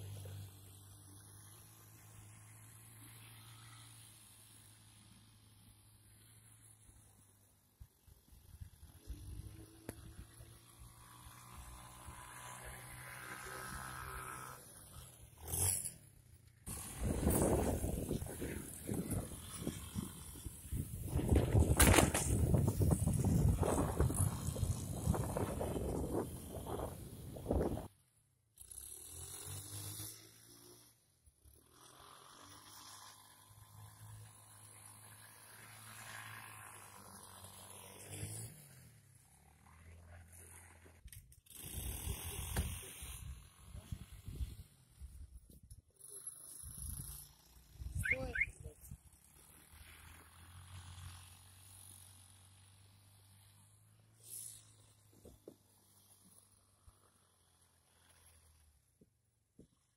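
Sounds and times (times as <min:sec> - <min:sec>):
quad bike engine passing: 0:00.0 - 0:59.0.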